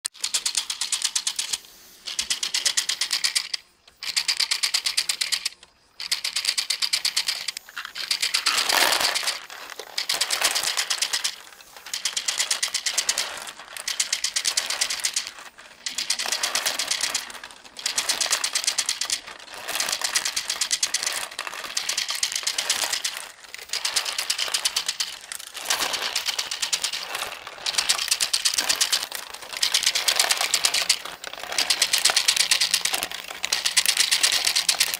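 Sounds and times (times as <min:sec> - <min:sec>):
plastic gears clicking: 0:00.1 - 0:34.9.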